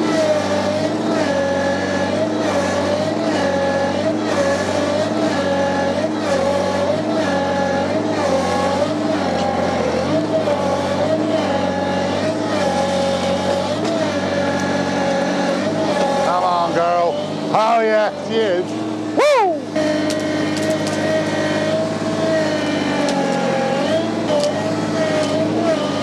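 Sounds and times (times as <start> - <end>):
tractor engine working under load: 0.0 - 26.0.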